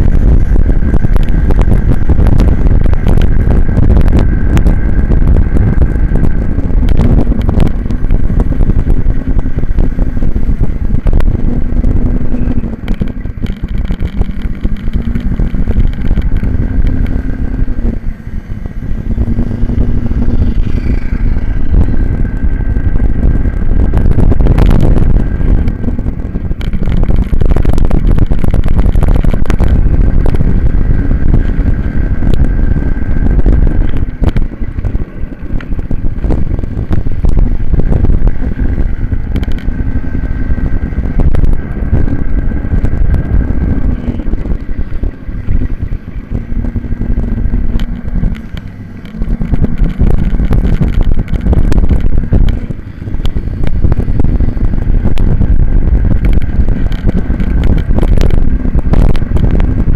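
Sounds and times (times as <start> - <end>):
minibike engine at high revs: 0.0 - 59.9
wind buffeting microphone: 0.0 - 59.9.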